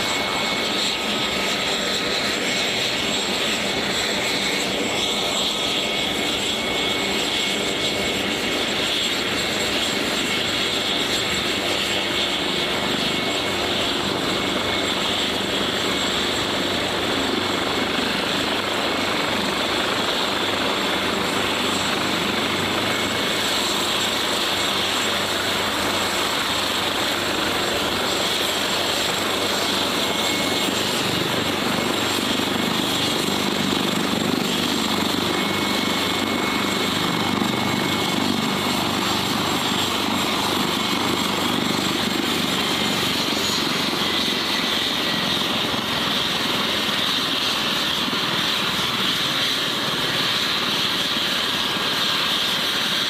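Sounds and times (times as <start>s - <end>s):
helicopter rotor and engine noise: 0.0s - 53.0s
high turbine whine: 0.0s - 53.0s.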